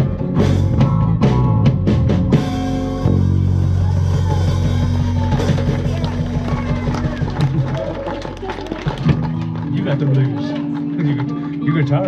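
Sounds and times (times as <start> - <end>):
drum kit: 0.0 - 9.7
upright bass: 0.0 - 12.0.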